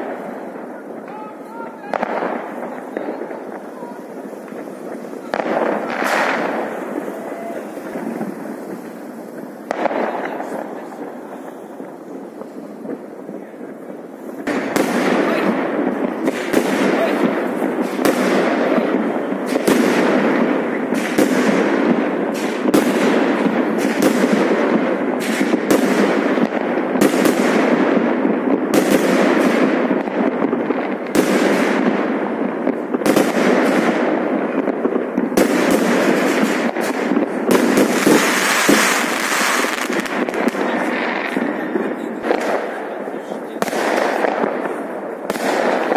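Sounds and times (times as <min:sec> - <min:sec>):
fireworks bangs and crackling: 0:00.0 - 0:45.9.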